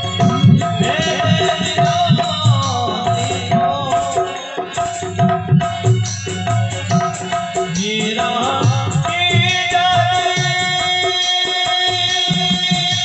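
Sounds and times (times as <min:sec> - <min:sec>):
hand drum beat: 0:00.0 - 0:11.2
harmonium melody: 0:00.0 - 0:13.0.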